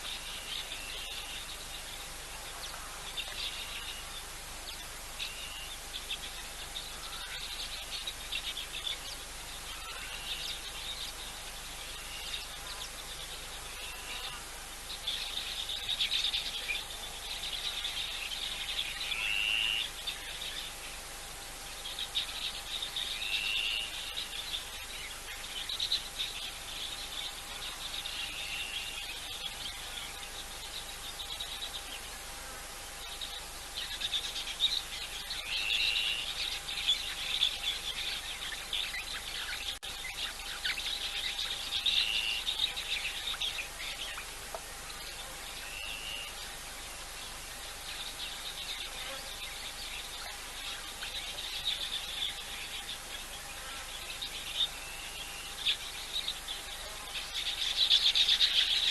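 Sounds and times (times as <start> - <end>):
birds chirping and twittering: 0.0 - 58.9
faint steady hum: 0.0 - 58.9.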